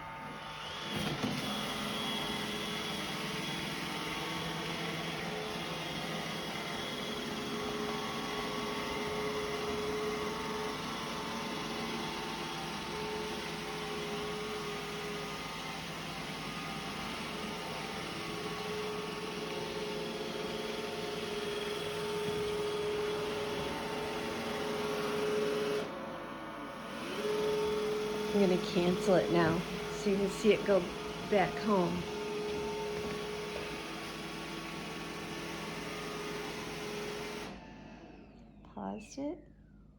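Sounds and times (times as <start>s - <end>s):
robot vacuum running: 0.0s - 38.6s.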